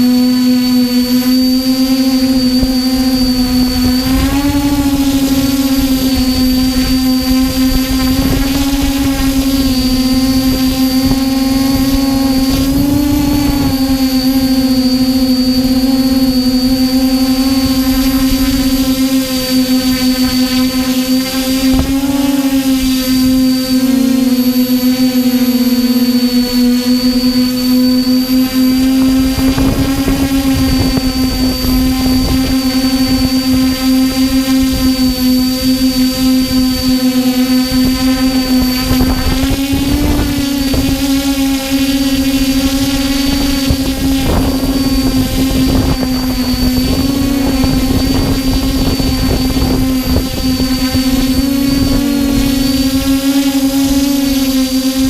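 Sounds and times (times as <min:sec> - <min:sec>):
drone propellers buzzing: 0:00.0 - 0:55.0
wind rumble on microphone: 0:00.0 - 0:55.0.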